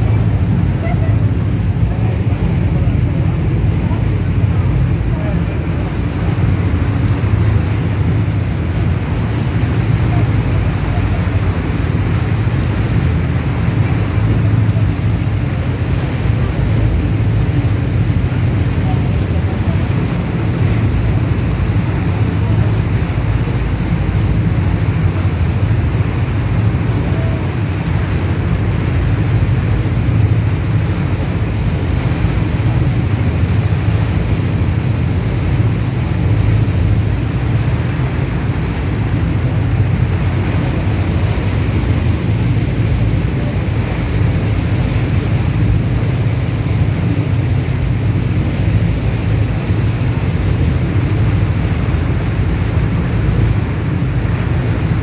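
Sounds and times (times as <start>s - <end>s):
boat engine drone: 0.0s - 55.0s
propeller wake churning: 0.0s - 55.0s
wind buffeting microphone: 0.0s - 55.0s.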